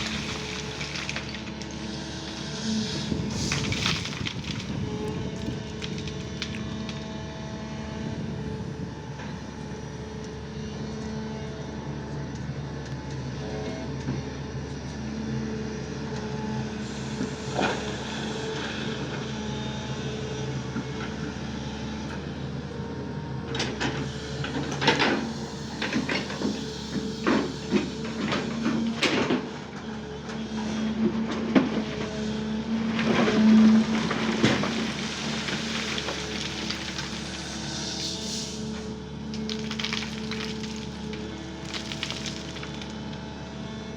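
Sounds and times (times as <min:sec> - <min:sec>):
diesel engine running: 0:00.0 - 0:12.8, 0:15.7 - 0:43.9.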